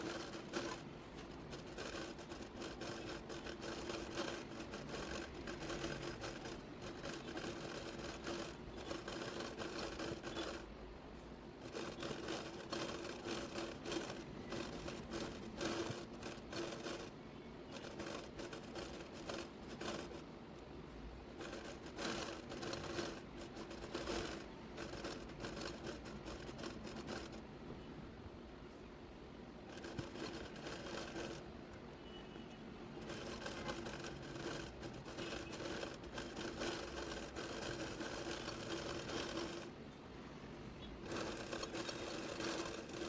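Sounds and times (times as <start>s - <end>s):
needle and thread pulled through fabric: 0.0s - 10.8s, 11.6s - 27.4s, 29.6s - 40.0s, 40.8s - 43.0s.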